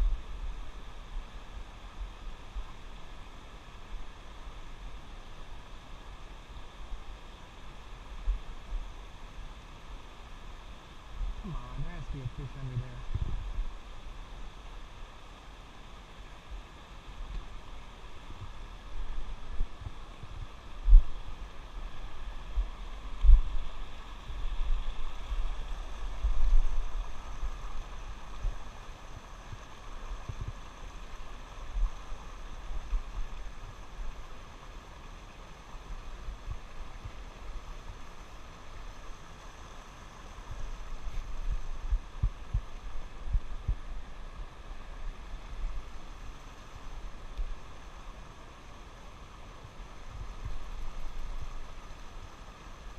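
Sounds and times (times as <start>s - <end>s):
stream running over rocks: 0.0s - 52.9s.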